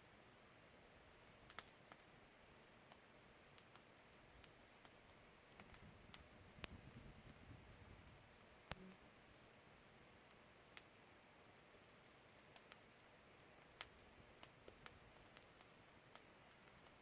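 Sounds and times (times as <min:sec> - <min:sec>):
firewood fire crackling: 0:00.0 - 0:17.0.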